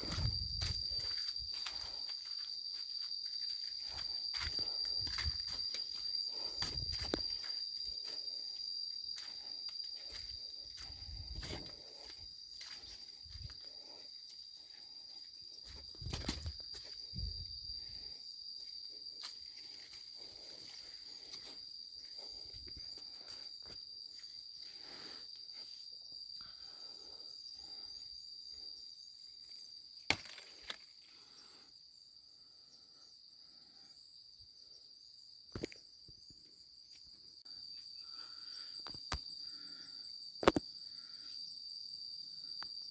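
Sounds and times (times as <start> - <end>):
high-pitched insect trill: 0.0 - 42.9.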